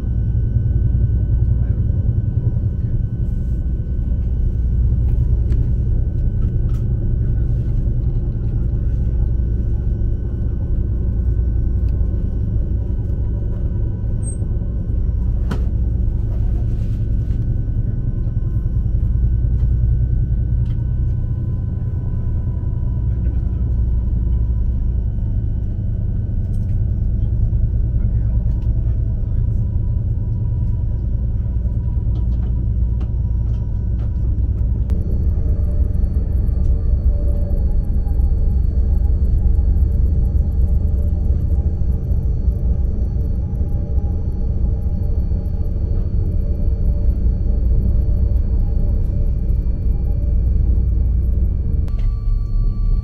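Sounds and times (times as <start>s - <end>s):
train rumble inside cabin: 0.0s - 53.0s.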